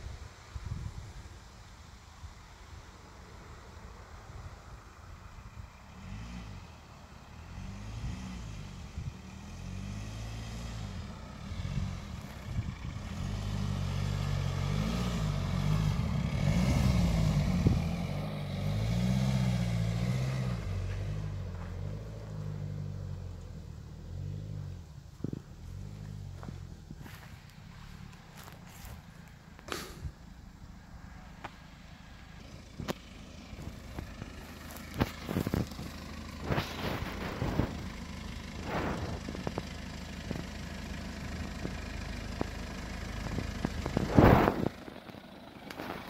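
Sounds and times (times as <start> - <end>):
diesel engine under load: 3.8 - 46.0.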